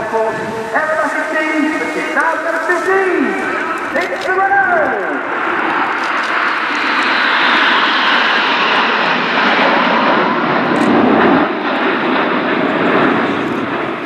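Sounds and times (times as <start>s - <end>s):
jets flying past: 0.0s - 14.0s.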